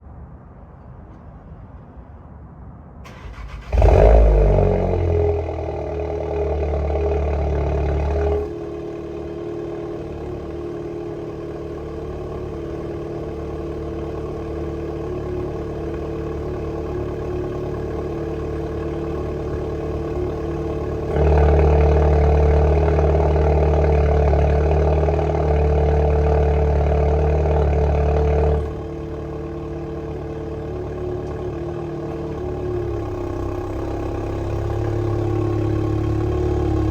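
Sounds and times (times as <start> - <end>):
car engine starting and idling: 3.0 - 36.9.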